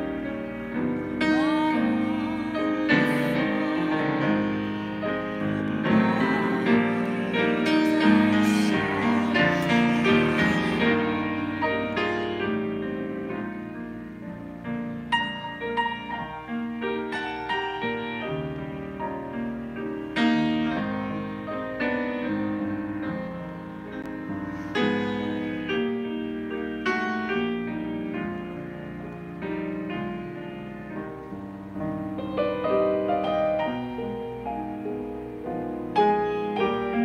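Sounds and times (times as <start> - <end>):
piano playing hymn chords: 0.0 - 37.0.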